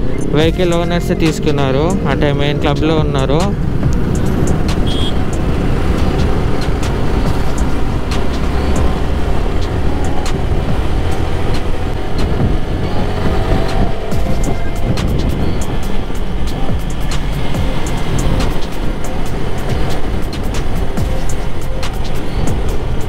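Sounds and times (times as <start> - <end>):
motorcycle engine running steadily: 0.0 - 23.0
wind rushing over microphone: 0.0 - 23.0.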